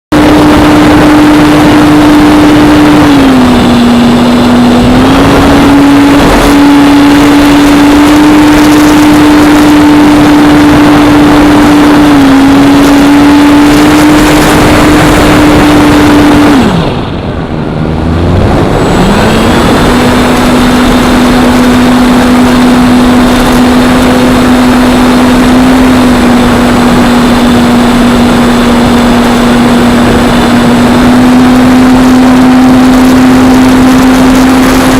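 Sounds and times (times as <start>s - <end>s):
model plane electric motor whine: 0.2s - 17.0s, 18.1s - 34.9s.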